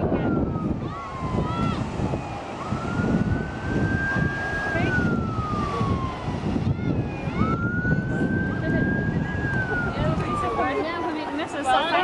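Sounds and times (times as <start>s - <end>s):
emergency vehicle siren wailing: 0.0s - 12.0s
wind on microphone: 0.0s - 12.0s.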